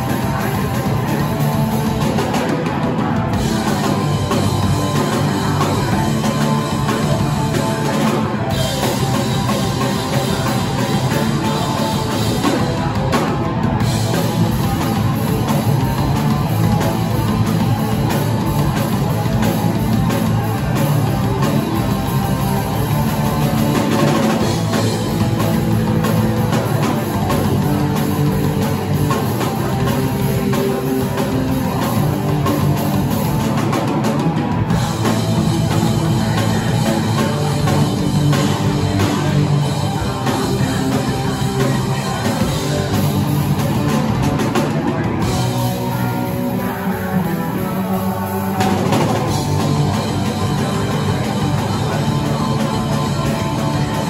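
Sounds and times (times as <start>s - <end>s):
drum kit: 0.0s - 54.0s
electric guitars through amplifiers: 0.0s - 54.0s.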